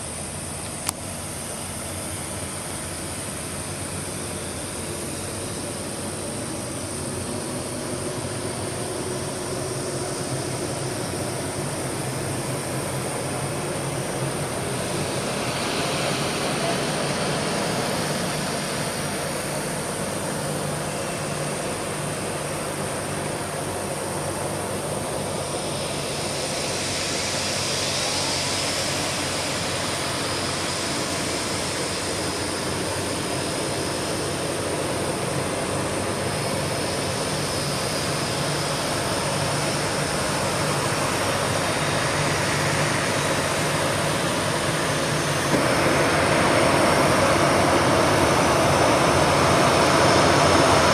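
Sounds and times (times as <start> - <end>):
high jet engine whine: 0.0 - 50.9
jet engines rumbling: 0.0 - 50.9.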